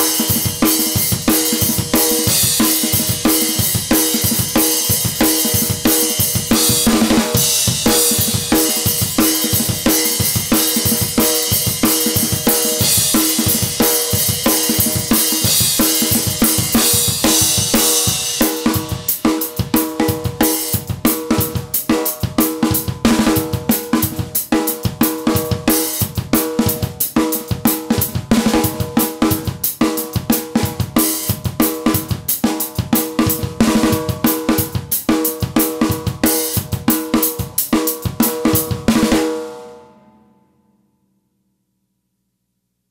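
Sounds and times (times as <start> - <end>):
snare drum: 0.0 - 39.4.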